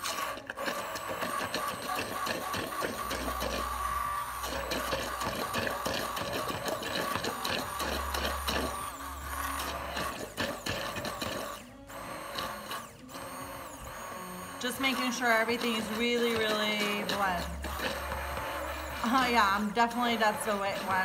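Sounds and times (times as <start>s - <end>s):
hand blender whirring in glass jar: 0.0s - 21.0s.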